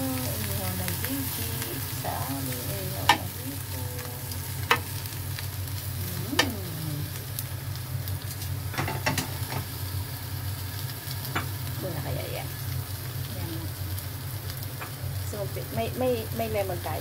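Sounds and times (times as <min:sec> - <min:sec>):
low hum: 0:00.0 - 0:17.0
prawns sizzling on grill pan: 0:00.0 - 0:17.0.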